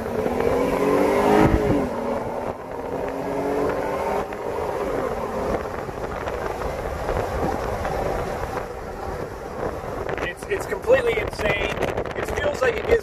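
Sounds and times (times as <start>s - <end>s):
car engine accelerating: 0.0s - 12.9s.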